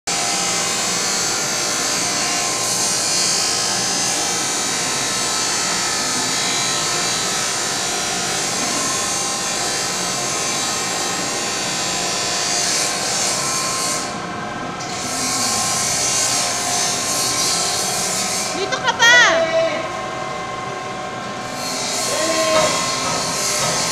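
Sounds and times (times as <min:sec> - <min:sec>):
woodworking machinery din: 0:00.1 - 0:23.9.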